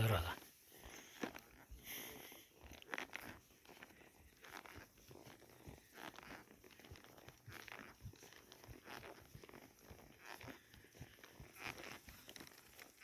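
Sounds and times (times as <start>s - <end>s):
horse hooves crunching: 0.0s - 13.0s
soft rustling: 0.0s - 13.0s.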